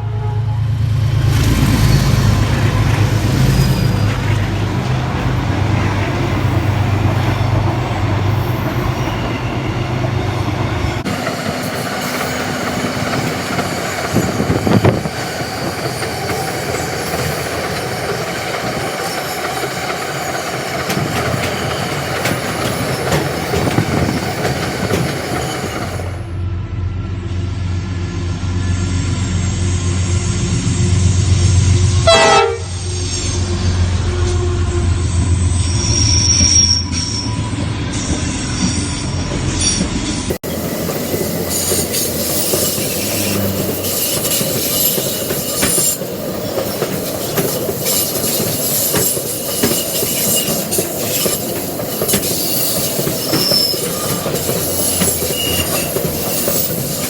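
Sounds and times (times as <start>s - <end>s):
locomotive engine humming: 0.0s - 57.0s
wagons rumbling over rails: 0.0s - 57.0s
wheel squeal: 1.3s - 26.3s, 32.8s - 57.0s.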